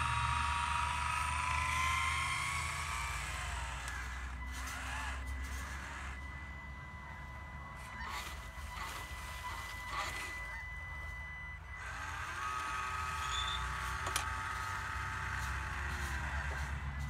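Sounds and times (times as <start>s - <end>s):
electric lift motor whine: 0.0s - 17.0s.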